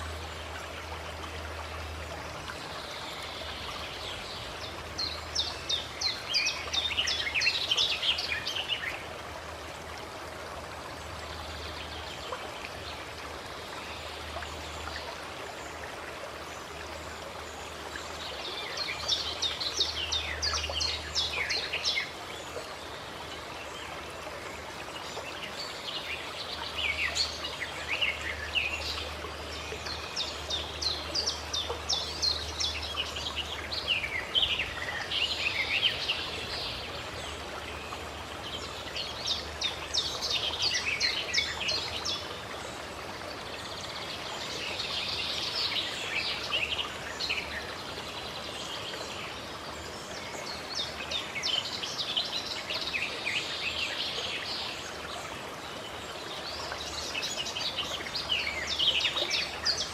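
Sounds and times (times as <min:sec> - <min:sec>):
running water: 0:00.0 - 0:59.9
songbirds chirping: 0:00.0 - 0:59.9.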